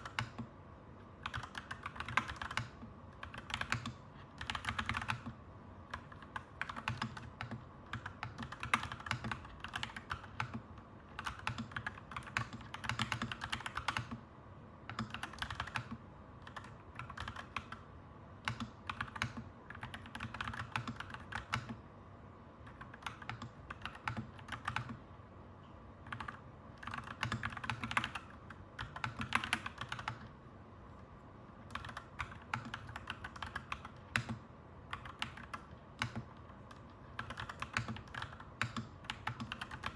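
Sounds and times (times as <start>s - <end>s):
mechanical keyboard typing: 0.0s - 0.5s, 1.2s - 21.8s, 22.6s - 25.0s, 26.0s - 30.4s, 31.6s - 39.9s
low background hum: 0.0s - 39.9s.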